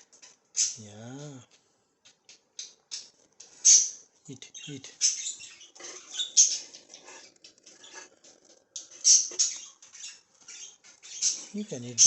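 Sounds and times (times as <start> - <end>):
baby budgerigars chirping: 0.1 - 1.4, 2.3 - 12.0.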